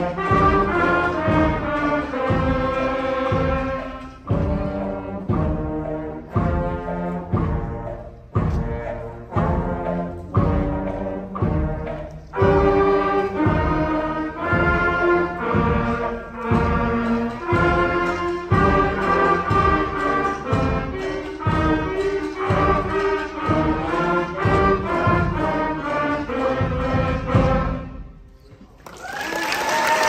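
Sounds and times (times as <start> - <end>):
concert band playing: 0.0 - 28.0.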